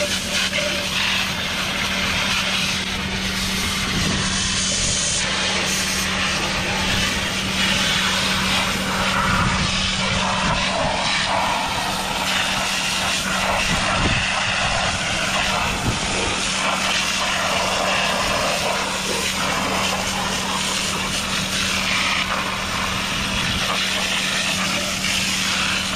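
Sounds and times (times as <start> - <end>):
engine drone: 0.0 - 25.9
pressure washer spray hiss: 0.0 - 25.9.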